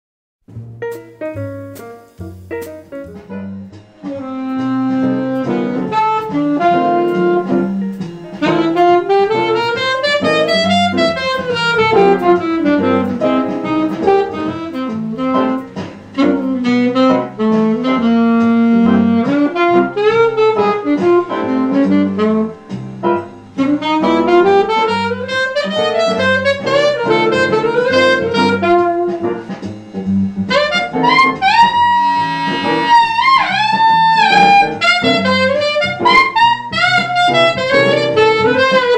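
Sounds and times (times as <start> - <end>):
piano and bass backing track: 0.4 - 38.9
saxophone jazz melody: 0.5 - 38.9.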